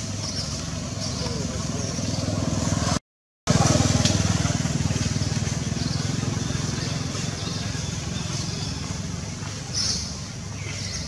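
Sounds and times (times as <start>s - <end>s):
engine rumbling steadily: 0.0s - 11.0s.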